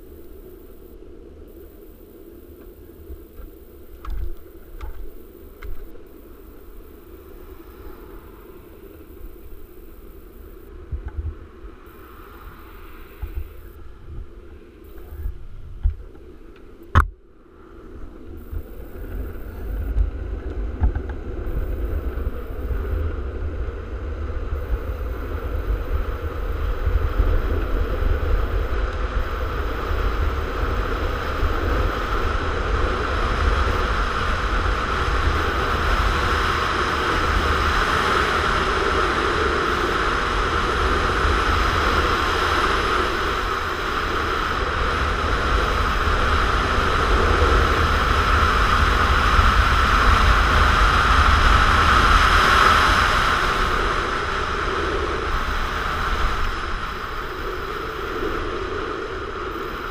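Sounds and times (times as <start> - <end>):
wheels rolling on asphalt: 0.0 - 59.9
wind rushing over microphone: 0.0 - 59.9.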